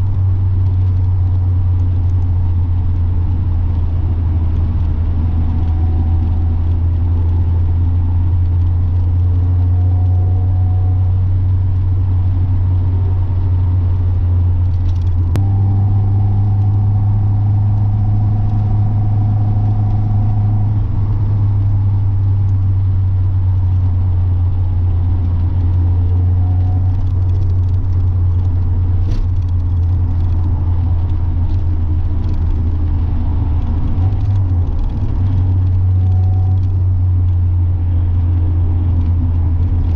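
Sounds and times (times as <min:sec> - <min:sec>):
car engine and exhaust droning: 0:00.0 - 0:39.9
road noise: 0:00.0 - 0:39.9.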